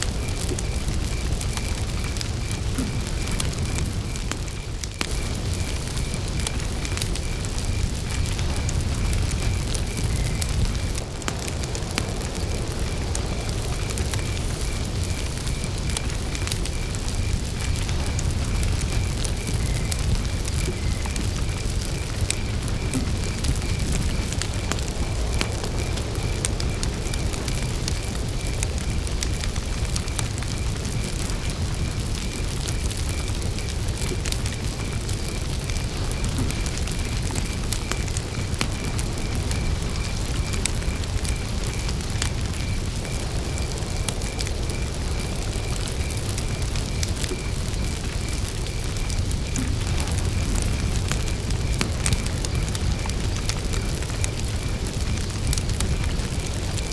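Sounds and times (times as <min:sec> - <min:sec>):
campfire crackling and popping: 0:00.0 - 0:56.9
cricket chirping: 0:00.0 - 0:56.9.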